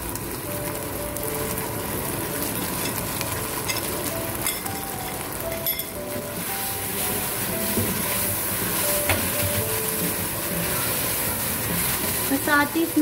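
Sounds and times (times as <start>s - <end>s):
chicken sizzling in sauce: 0.0s - 13.0s.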